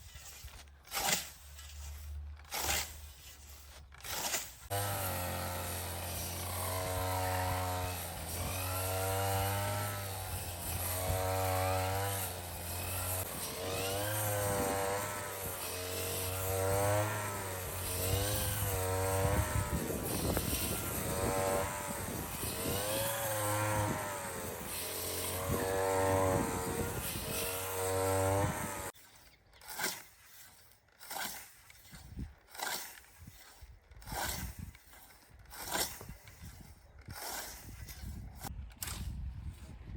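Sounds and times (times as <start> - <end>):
brush cutter engine mowing grass: 0.0 - 39.9.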